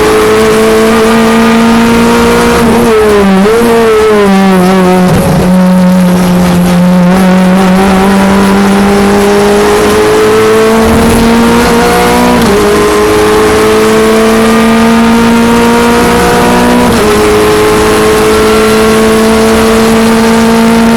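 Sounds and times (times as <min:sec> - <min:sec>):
race car engine accelerating: 0:00.0 - 0:20.9.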